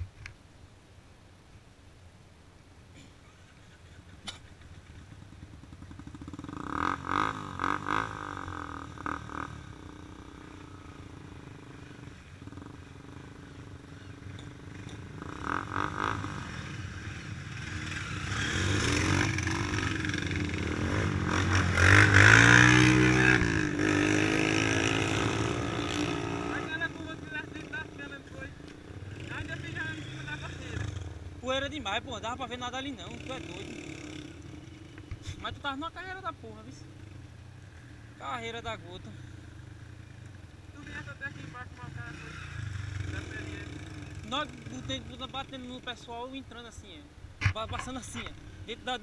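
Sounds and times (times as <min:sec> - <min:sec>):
motorcycle engine passing: 0:04.2 - 0:45.9.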